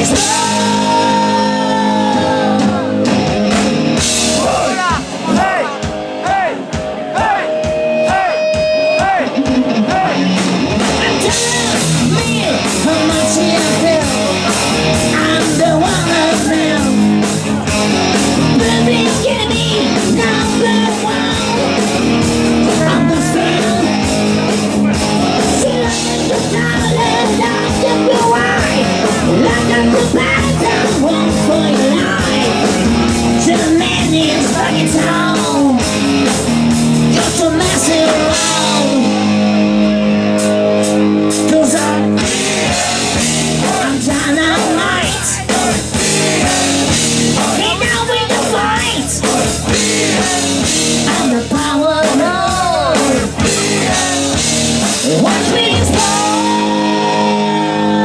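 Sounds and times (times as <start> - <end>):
person singing: 0.0 - 3.1, 4.3 - 10.4, 11.0 - 17.2, 18.4 - 22.0, 22.6 - 24.2, 24.8 - 36.0, 37.0 - 39.5, 41.4 - 58.0
drum kit and cymbals: 0.0 - 58.0
electric guitar: 0.0 - 58.0.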